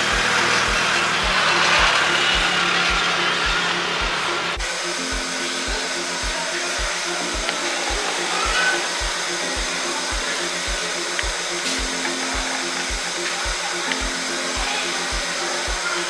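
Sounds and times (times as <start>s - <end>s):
music with kick drum and bass: 0.0s - 16.0s
steady hiss: 0.0s - 16.0s.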